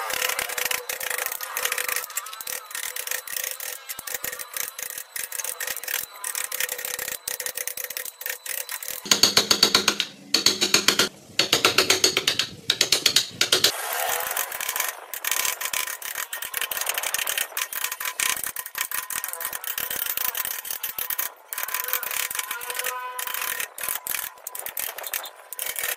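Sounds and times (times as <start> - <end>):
carving gouge cutting wood: 0.0 - 25.9.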